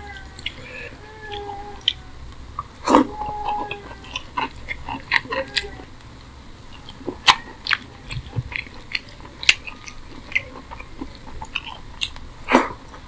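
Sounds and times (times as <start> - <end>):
man chewing food: 0.0 - 13.0.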